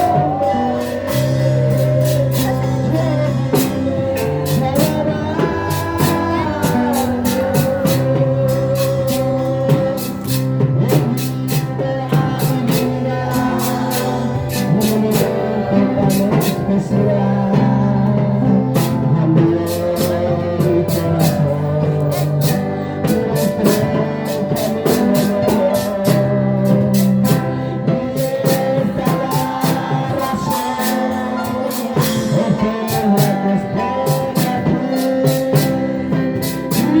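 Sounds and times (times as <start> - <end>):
band music: 0.0 - 37.0
person singing: 0.0 - 37.0.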